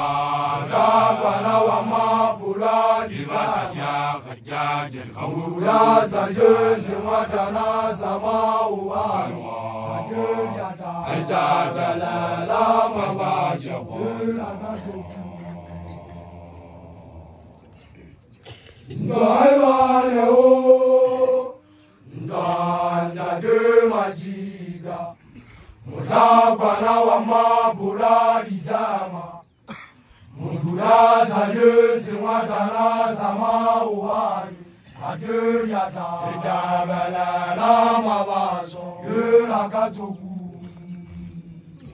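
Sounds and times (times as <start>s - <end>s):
group chanting in unison: 0.0s - 18.0s, 18.9s - 41.9s.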